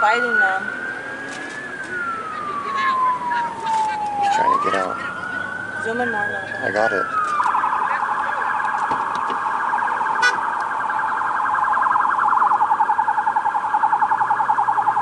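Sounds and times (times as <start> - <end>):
police siren warbling: 0.0 - 15.0.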